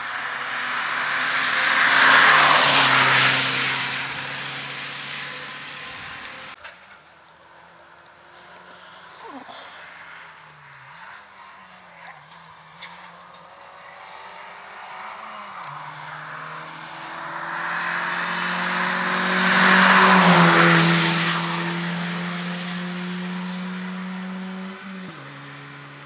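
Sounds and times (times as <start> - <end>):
rally car passing at speed: 0.0 - 6.7, 7.5 - 26.0.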